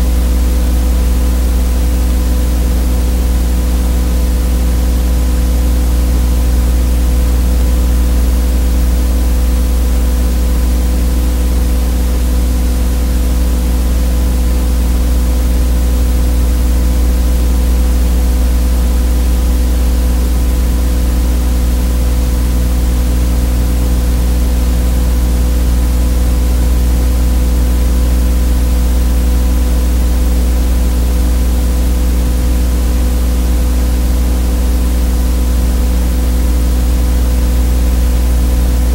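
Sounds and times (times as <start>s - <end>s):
steady electrical buzz: 0.0s - 38.9s.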